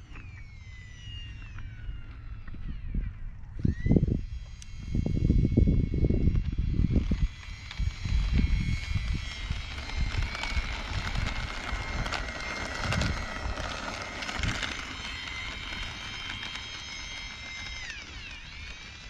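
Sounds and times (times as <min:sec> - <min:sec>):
electric ducted fans whining: 0:00.0 - 0:19.0.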